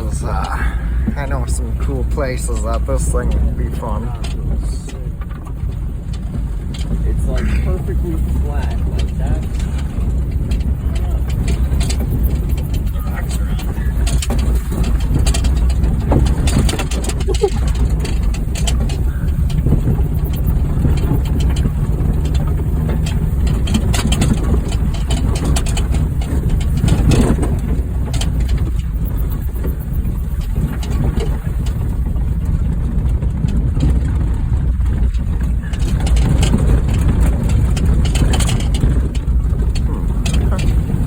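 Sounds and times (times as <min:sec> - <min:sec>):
car engine running: 0:00.0 - 0:41.0
clicks and rattles: 0:00.0 - 0:41.0.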